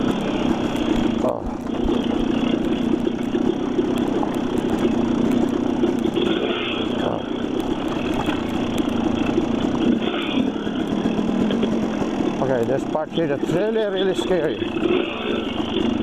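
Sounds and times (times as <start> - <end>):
constant rushing noise: 0.0 - 16.0
dirt bike engine running: 0.0 - 16.0.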